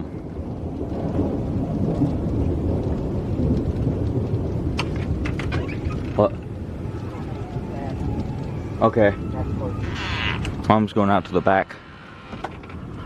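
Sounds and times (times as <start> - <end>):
rolling thunder: 0.0 - 11.5
rain falling: 0.0 - 13.0.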